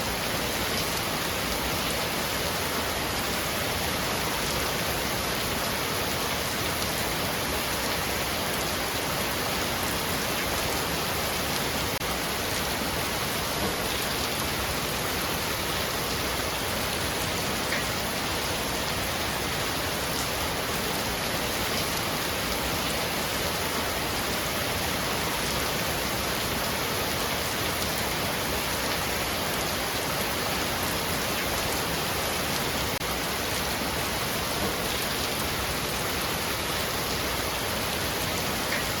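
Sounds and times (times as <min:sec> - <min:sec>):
heavy rain on a roof: 0:00.0 - 0:39.0.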